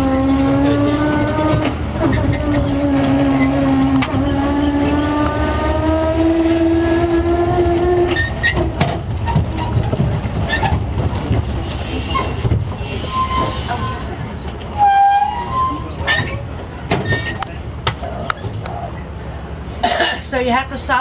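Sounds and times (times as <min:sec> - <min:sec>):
wheels rumbling over planks: 0:00.0 - 0:18.8
tram drive whine: 0:00.0 - 0:21.0.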